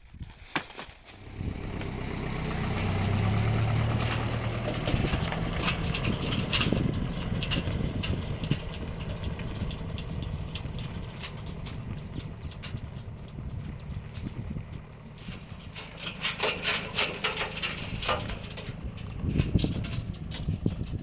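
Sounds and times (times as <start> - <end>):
vehicle engine running: 1.1 - 21.0.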